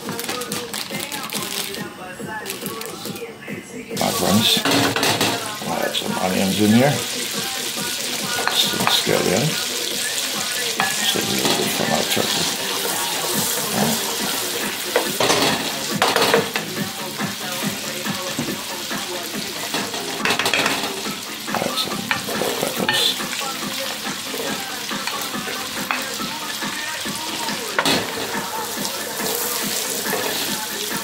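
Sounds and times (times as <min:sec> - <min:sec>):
vegetables sizzling in butter: 0:00.0 - 0:03.2, 0:04.0 - 0:31.0.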